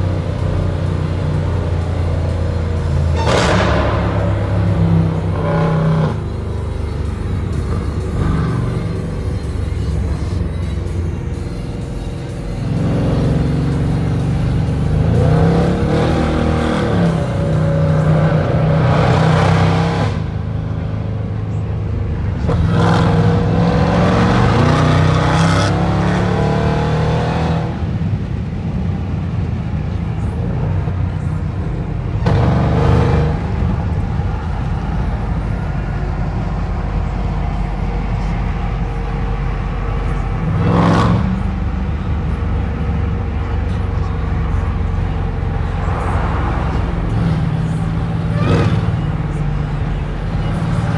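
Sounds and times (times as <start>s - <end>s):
low exhaust drone: 0.0s - 50.9s.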